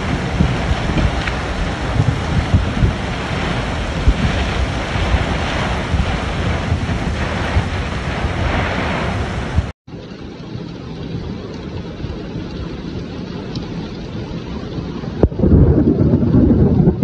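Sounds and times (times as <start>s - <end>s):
wind gusts buffeting microphone: 0.0s - 9.7s, 11.0s - 17.0s
heavy rain: 0.0s - 17.0s.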